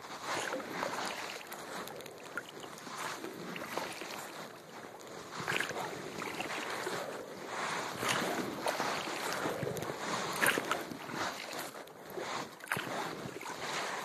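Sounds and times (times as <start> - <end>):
paddle strokes splashing: 0.0 - 14.0
water washing: 0.0 - 14.0.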